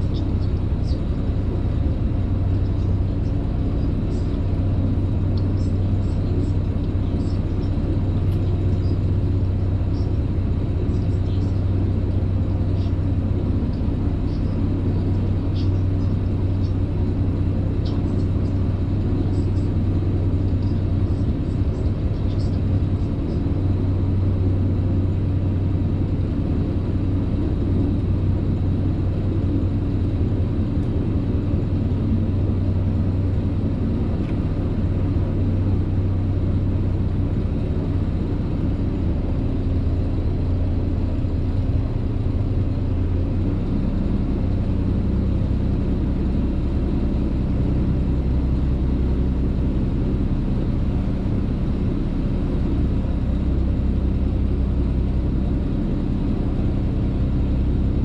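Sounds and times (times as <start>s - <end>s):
boat motor droning: 0.0s - 58.0s.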